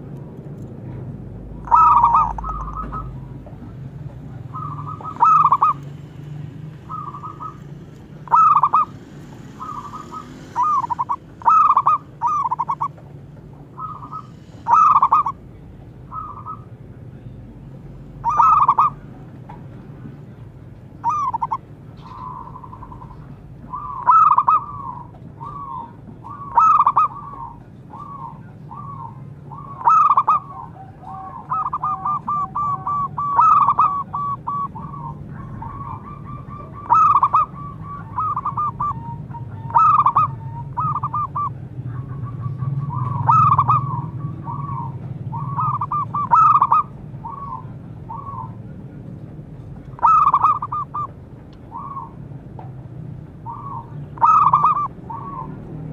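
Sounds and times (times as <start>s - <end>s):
dove cooing: 1.4s - 6.0s, 6.7s - 13.1s, 13.7s - 15.5s, 16.1s - 16.8s, 18.2s - 19.2s, 21.0s - 48.7s, 50.0s - 52.2s, 53.4s - 55.9s.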